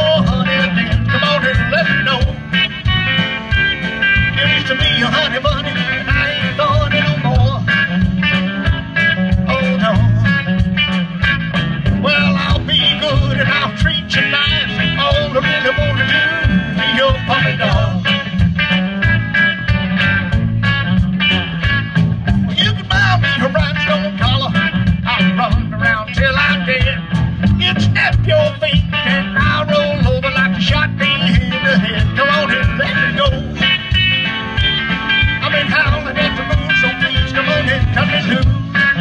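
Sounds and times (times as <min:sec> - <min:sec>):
bass guitar: 0:00.0 - 0:39.0
drums with steady beat: 0:00.0 - 0:39.0
electric guitars: 0:00.0 - 0:39.0.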